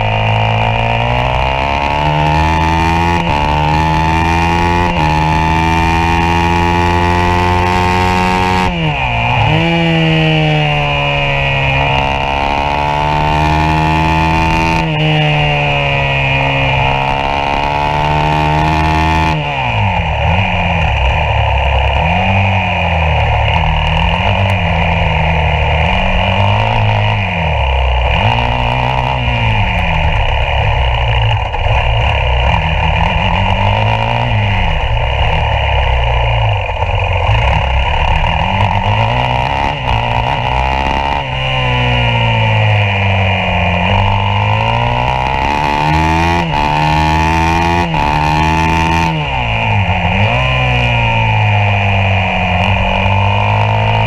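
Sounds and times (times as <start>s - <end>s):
motorcycle engine revving high: 0.0s - 54.0s.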